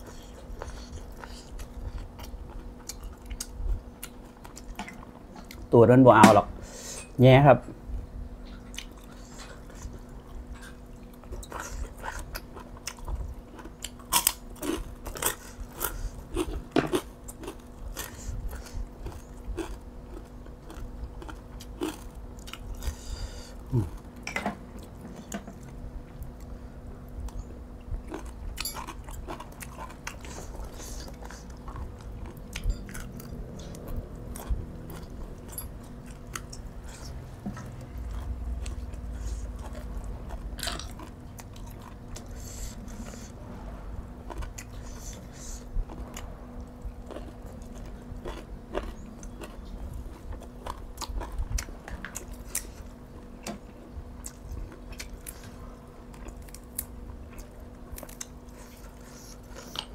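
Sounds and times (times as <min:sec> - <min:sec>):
person chewing food: 0:00.0 - 0:05.7, 0:08.4 - 0:43.5, 0:44.1 - 0:59.9.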